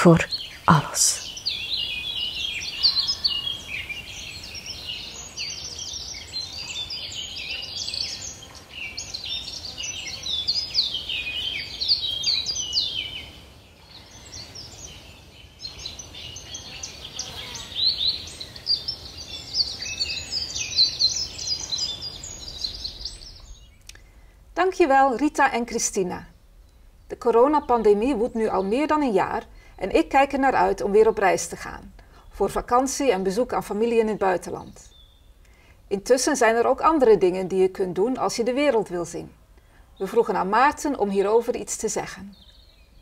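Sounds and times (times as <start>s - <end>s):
songbirds chirping and trilling: 0.0s - 43.0s.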